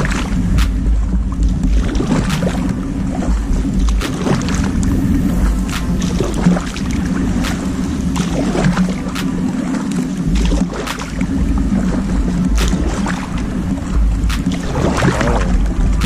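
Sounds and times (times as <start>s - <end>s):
paddle splashing in slushy water: 0.0s - 16.0s
wind rumbling on microphone: 0.0s - 16.0s.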